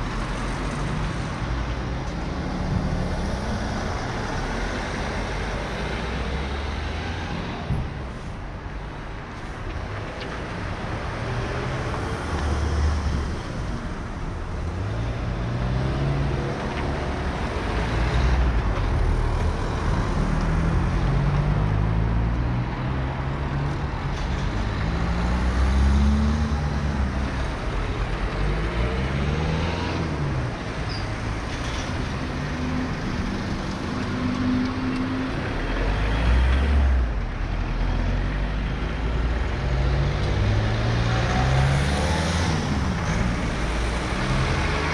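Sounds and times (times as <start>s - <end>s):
continuous traffic rumble: 0.0s - 44.9s
passing cars and van: 0.0s - 44.9s.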